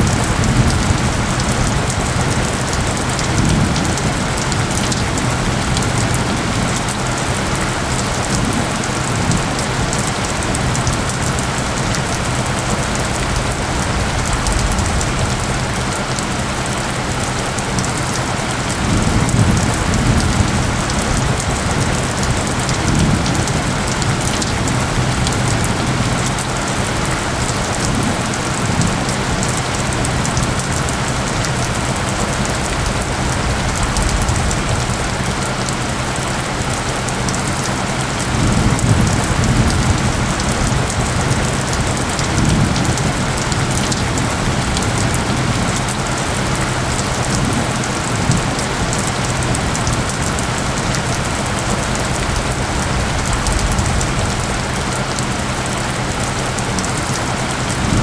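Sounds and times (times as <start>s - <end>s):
heavy rain on surfaces: 0.0s - 58.0s
isochronic tones hum: 0.0s - 58.0s.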